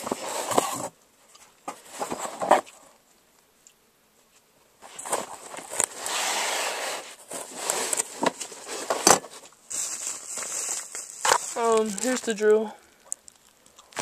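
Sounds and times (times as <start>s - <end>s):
packaging rustling and crinkling: 0.0s - 2.9s, 4.8s - 14.0s.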